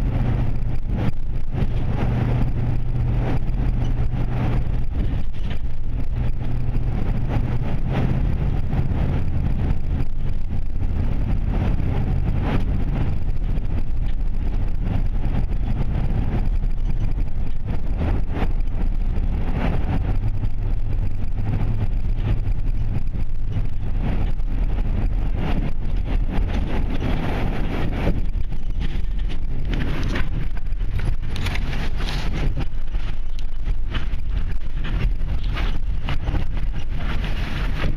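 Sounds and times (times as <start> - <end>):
car road and engine rumble: 0.0 - 37.9
low hum: 0.0 - 37.9.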